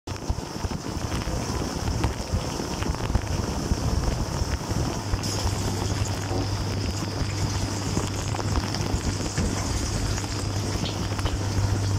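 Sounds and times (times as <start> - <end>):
pump motor humming: 0.1 - 11.9
water jets splashing on dishes: 0.1 - 11.9.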